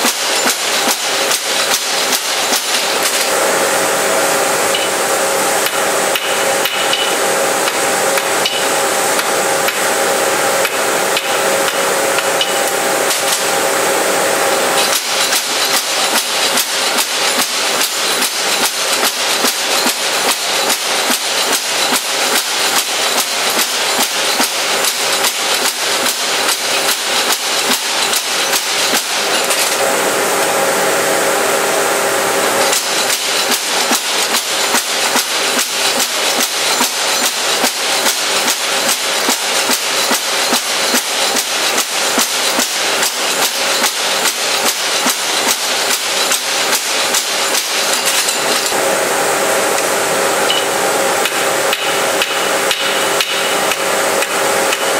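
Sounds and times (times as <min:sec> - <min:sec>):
spring hammer pounding hot metal: 0:00.0 - 0:30.6, 0:32.3 - 0:54.9
machine running: 0:00.0 - 0:54.9.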